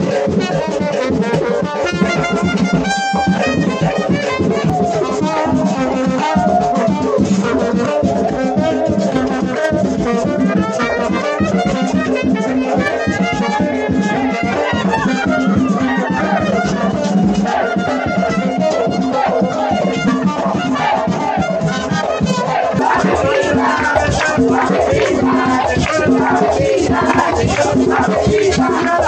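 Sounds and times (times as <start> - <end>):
latin dance music with brass horns: 0.0 - 29.0
quick percussion beat: 0.0 - 29.0.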